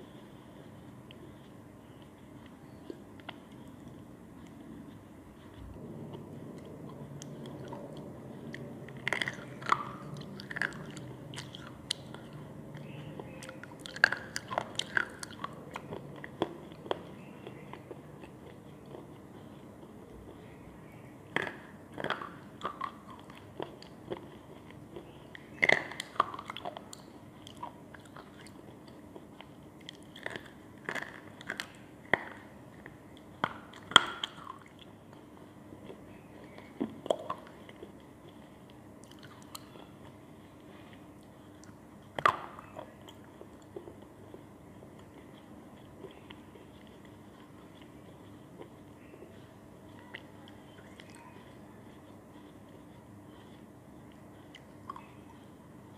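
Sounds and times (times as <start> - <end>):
chalky sticks crunching in mouth: 0.0 - 55.9
soft chewing: 0.0 - 55.9.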